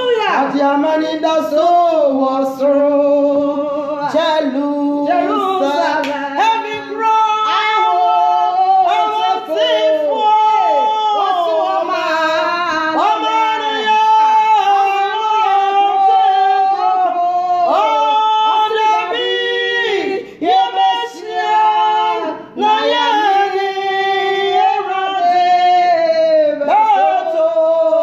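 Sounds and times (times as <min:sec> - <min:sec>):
women singing: 0:00.0 - 0:28.0.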